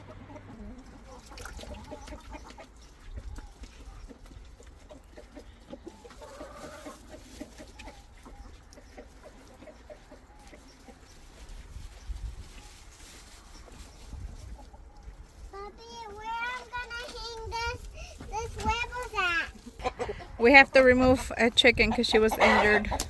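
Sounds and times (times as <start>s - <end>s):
hens clucking: 0.0s - 23.0s.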